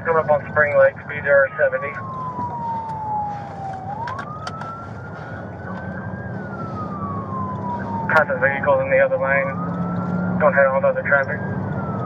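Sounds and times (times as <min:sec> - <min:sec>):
engine and tyres rumbling: 0:00.0 - 0:12.0
police siren wailing: 0:00.0 - 0:12.0.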